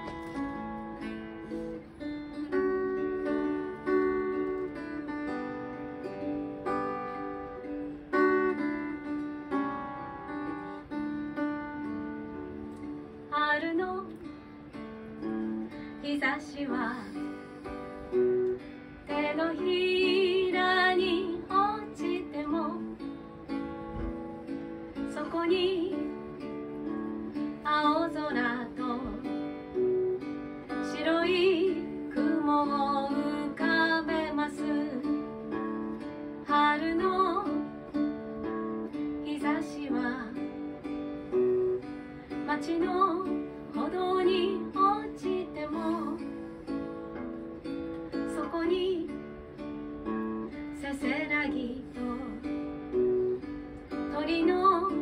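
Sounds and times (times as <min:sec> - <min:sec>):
woman singing: 0:00.0 - 0:47.4, 0:48.0 - 0:55.0
acoustic guitar strumming: 0:00.0 - 0:55.0.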